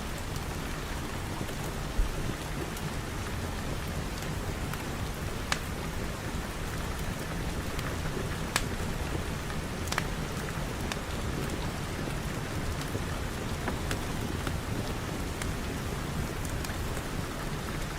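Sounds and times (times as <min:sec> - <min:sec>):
steady rain: 0:00.0 - 0:17.9.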